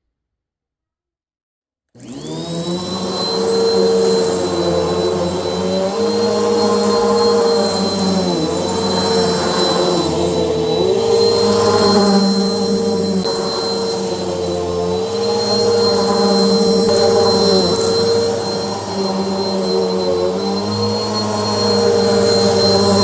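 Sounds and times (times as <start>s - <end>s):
electric motor whining: 2.0s - 23.0s.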